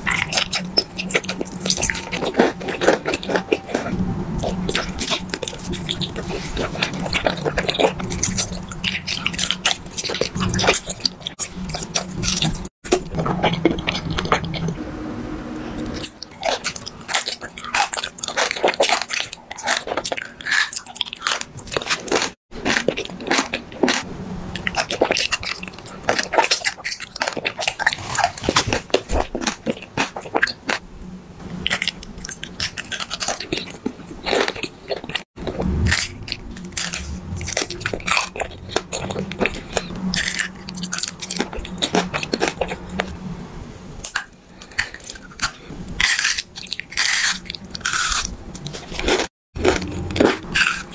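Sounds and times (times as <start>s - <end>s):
crunchy candy chewing: 0.0s - 14.8s, 15.8s - 30.8s, 31.6s - 43.2s, 44.0s - 50.9s.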